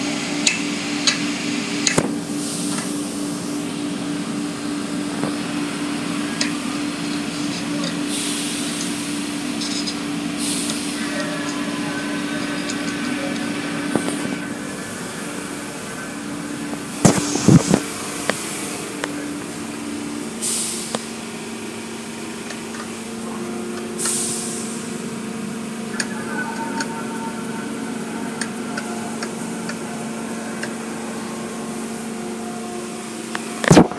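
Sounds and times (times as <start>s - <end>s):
car wash mechanical hum: 0.0s - 33.9s.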